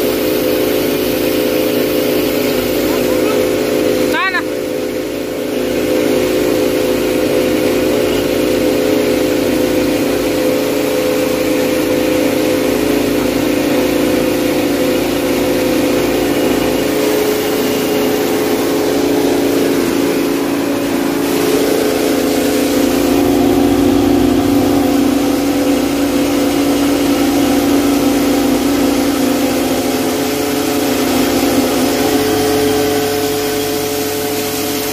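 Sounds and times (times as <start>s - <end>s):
rice mill humming: 0.0s - 34.9s.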